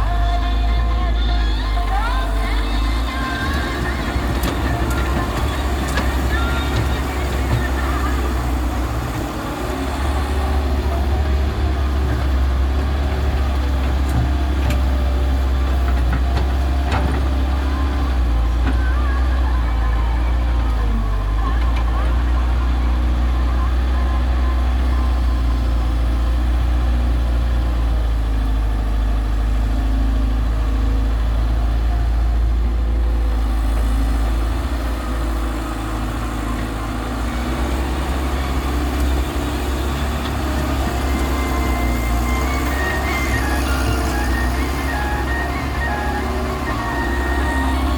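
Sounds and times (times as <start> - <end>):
heavy diesel engines humming: 0.0 - 47.9.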